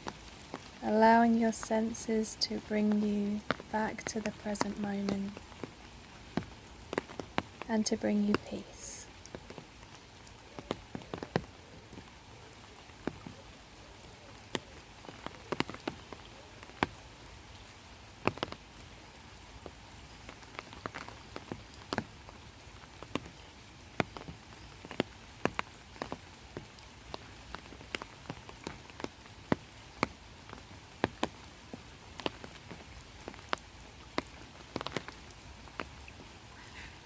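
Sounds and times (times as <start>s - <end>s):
raindrops ticking close by: 0.0s - 37.0s
steady rain hiss: 0.0s - 37.0s.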